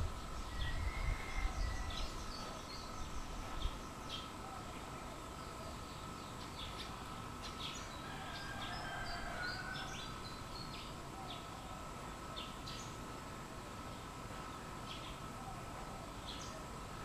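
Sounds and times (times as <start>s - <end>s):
small birds chirping: 0.0s - 13.1s, 13.7s - 17.0s
outdoor background noise: 0.0s - 17.0s.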